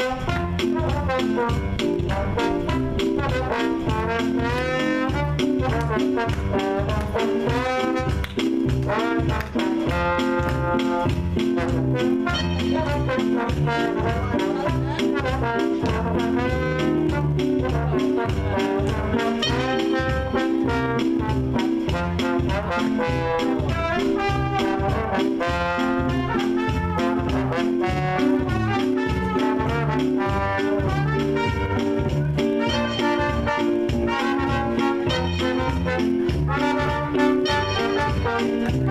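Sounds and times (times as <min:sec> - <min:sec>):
swing band playing: 0:00.0 - 0:38.9.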